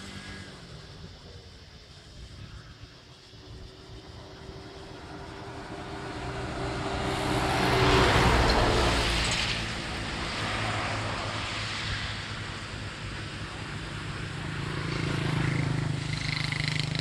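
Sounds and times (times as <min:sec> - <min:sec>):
engine passing by: 0:00.0 - 0:17.0.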